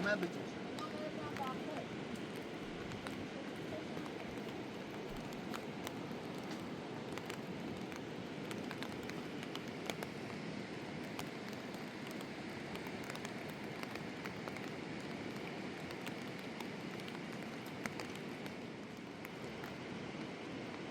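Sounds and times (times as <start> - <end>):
rain falling: 0.0 - 20.9
raindrops ticking on surfaces: 0.0 - 20.9.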